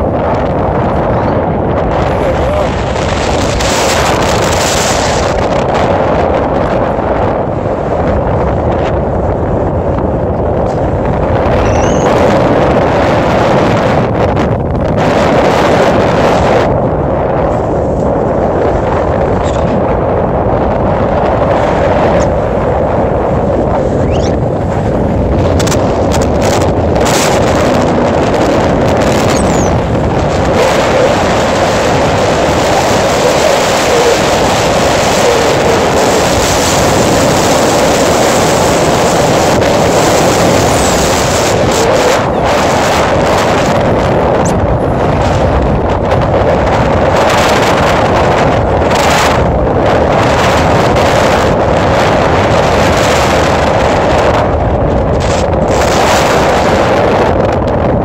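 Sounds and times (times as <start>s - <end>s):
road and tyre noise: 0.0s - 58.0s
wind on microphone: 0.0s - 58.0s.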